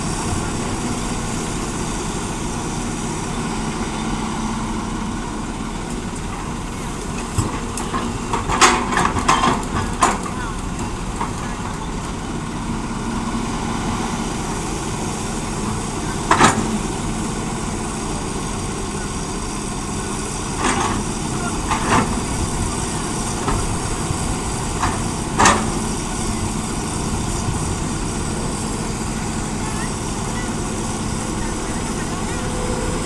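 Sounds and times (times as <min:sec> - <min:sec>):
heavy diesel machinery humming: 0:00.0 - 0:33.0.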